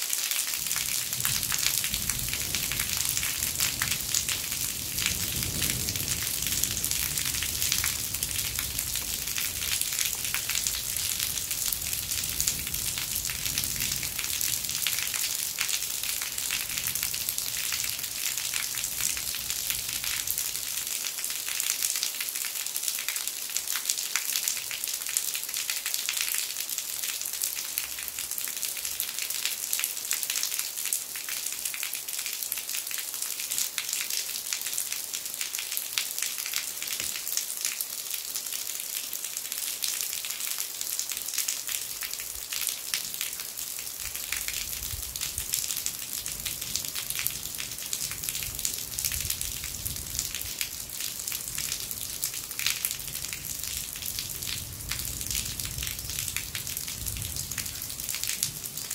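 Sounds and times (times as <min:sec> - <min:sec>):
rainwater dripping from eaves: 0:00.0 - 0:58.9.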